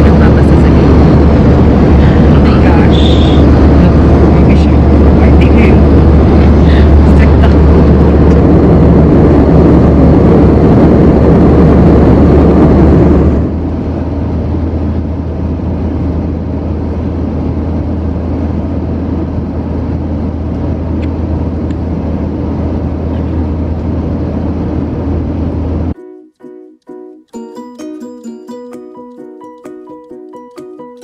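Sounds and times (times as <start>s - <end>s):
airliner cabin roar: 0.0s - 26.0s
low hum: 0.0s - 26.8s.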